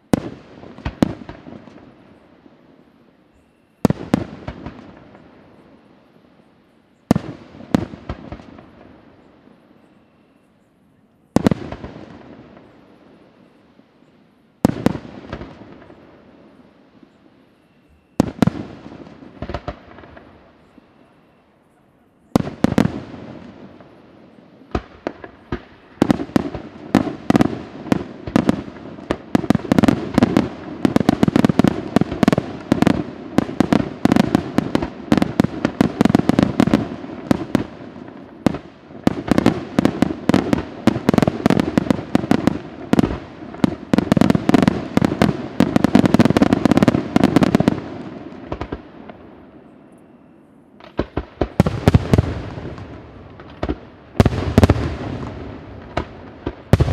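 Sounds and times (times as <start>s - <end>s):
fireworks bangs: 0.0s - 2.8s, 3.4s - 5.9s, 7.1s - 9.6s, 11.3s - 13.5s, 14.6s - 56.9s.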